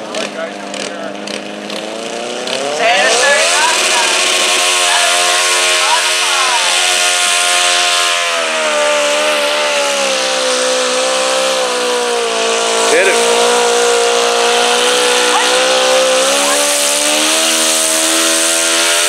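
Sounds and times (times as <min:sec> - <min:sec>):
tractor engine revving hard: 0:00.0 - 0:19.0.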